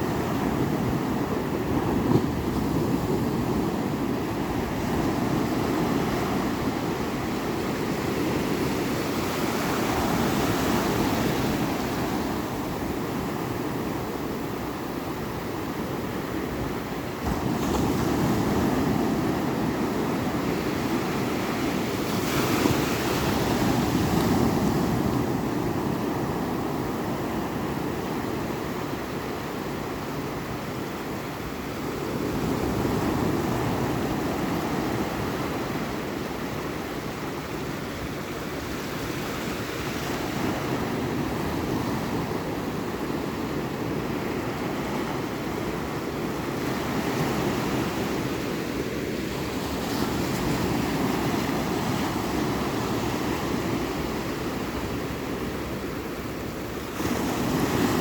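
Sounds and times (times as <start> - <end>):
ocean waves breaking: 0.0 - 28.9, 38.6 - 58.0.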